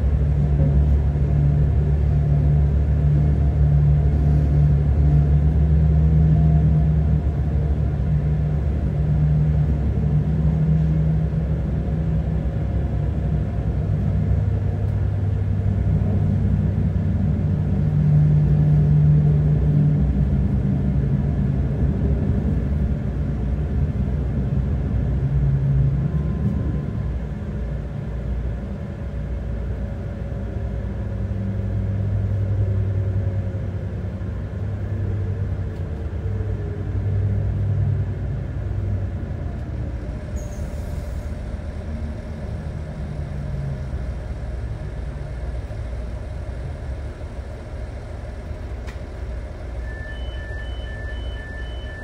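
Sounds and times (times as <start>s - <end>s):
diesel engine drone: 0.0s - 52.0s
rail rumble: 0.0s - 52.0s.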